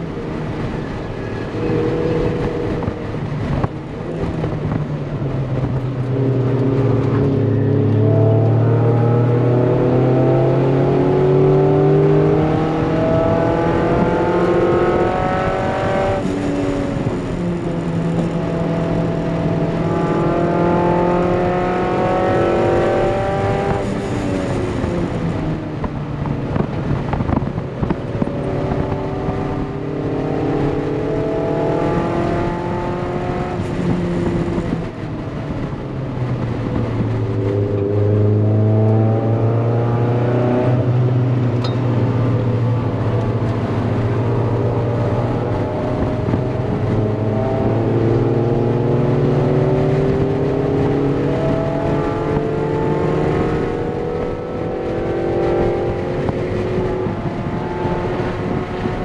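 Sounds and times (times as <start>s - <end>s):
road and tyre noise: 0.0s - 59.0s
car engine revving from inside: 1.5s - 24.6s, 28.1s - 35.3s, 36.4s - 59.0s.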